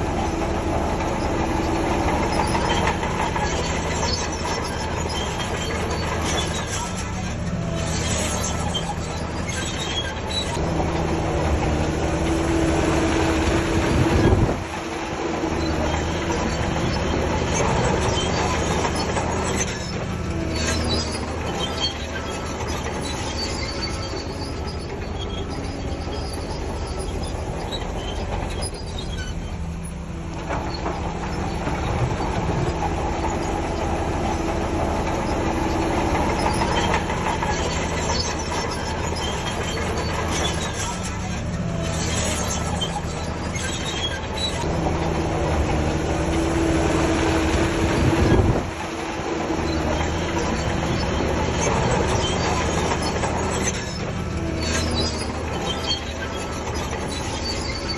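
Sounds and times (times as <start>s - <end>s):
bulldozer diesel engine: 0.0s - 57.9s
steel tracks clanking and squealing: 0.0s - 57.9s.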